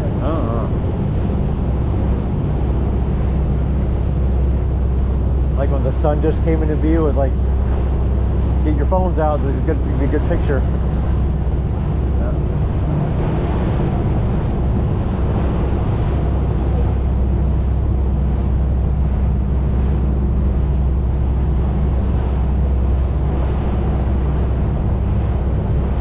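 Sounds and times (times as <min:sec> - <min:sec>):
boat engine running: 0:00.0 - 0:26.0
water rushing past hull: 0:00.0 - 0:26.0
wind buffeting microphone: 0:00.0 - 0:26.0.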